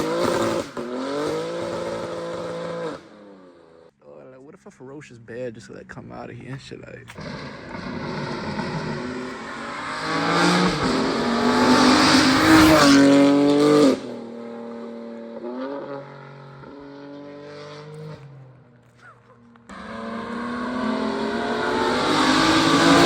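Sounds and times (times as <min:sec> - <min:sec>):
car engine accelerating hard: 0:00.0 - 0:03.5, 0:07.1 - 0:23.0.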